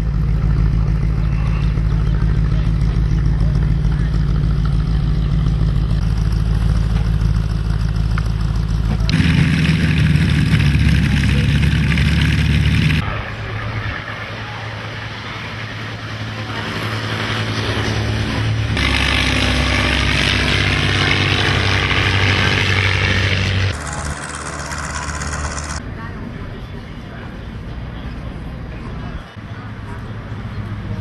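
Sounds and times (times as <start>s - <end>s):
piston aircraft engines running: 0.0s - 31.0s.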